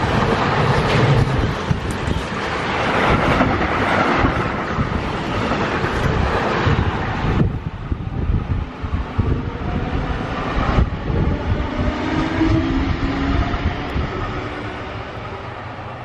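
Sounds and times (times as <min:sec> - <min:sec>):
freight train clattering over rails: 0:00.0 - 0:16.0.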